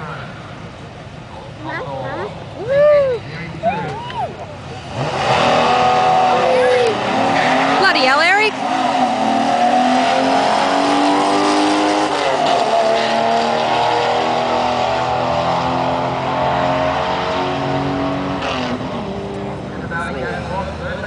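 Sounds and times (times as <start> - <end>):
drag cars at full throttle: 0.0 - 21.0.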